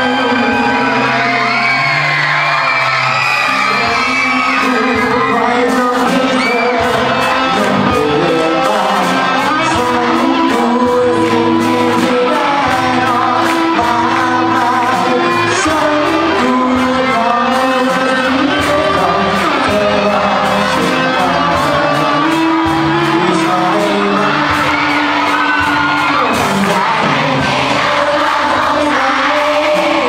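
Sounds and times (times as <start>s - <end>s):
drum kit: 0.0s - 30.0s
electric bass: 0.0s - 30.0s
electric guitar: 0.0s - 30.0s
man singing into microphone: 0.0s - 30.0s.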